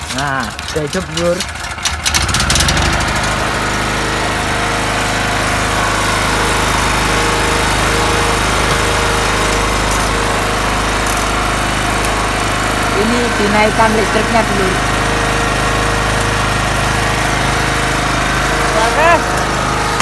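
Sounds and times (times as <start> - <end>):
generator engine running: 0.0 - 20.0.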